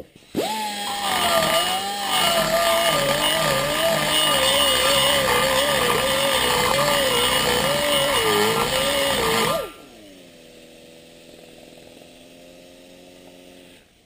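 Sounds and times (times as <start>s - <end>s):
rotary grinder whining: 0.0s - 12.0s
grinder spinning down: 0.0s - 13.8s.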